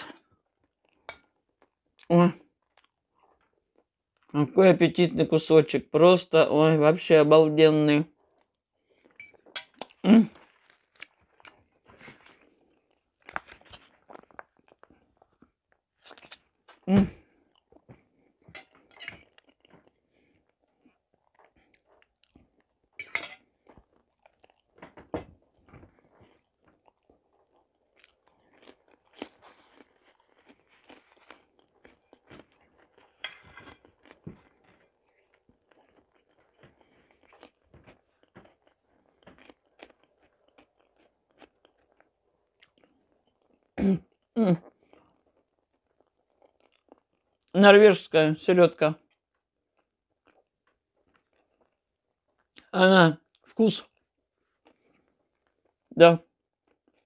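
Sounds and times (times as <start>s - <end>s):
person chewing food: 0.0s - 4.3s, 8.1s - 47.6s, 49.0s - 57.0s.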